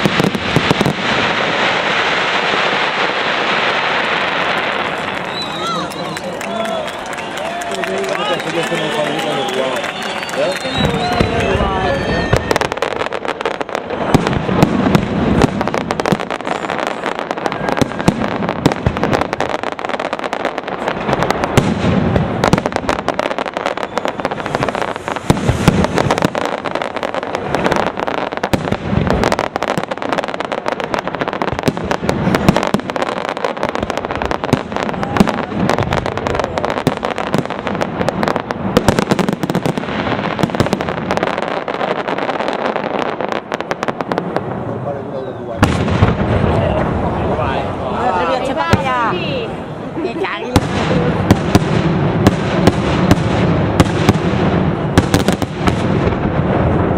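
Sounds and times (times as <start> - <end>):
fireworks bursts and bangs: 0.0 - 56.9
fireworks crackling: 0.0 - 56.9.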